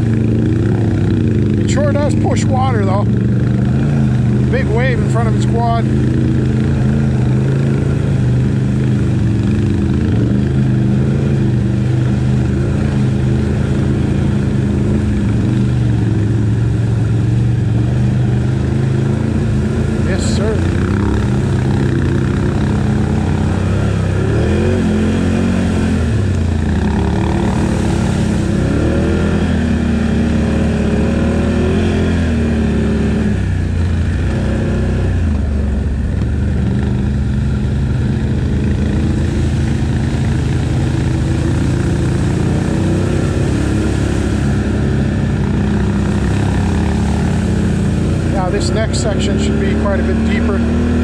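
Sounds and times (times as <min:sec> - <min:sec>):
atv engine revving: 0:00.0 - 0:51.0.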